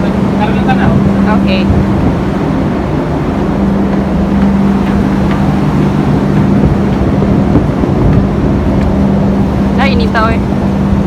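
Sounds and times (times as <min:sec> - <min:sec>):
ship machinery humming: 0:00.0 - 0:11.0.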